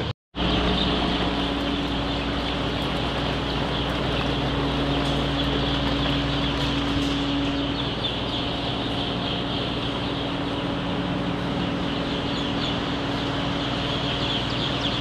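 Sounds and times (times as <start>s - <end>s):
chicks peeping: 0.0s - 15.0s
low machine hum: 0.0s - 15.0s.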